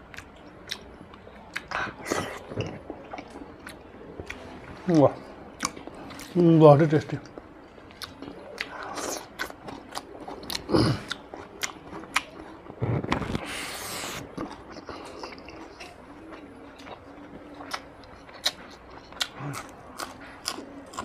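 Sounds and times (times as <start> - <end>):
man chewing food: 0.0 - 6.4, 7.2 - 21.0.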